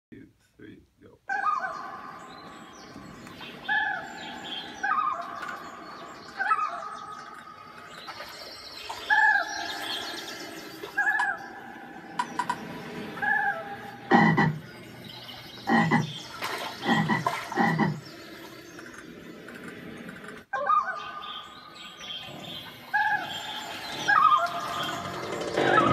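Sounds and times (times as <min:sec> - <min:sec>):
recorded animal calls: 0:00.1 - 0:25.9.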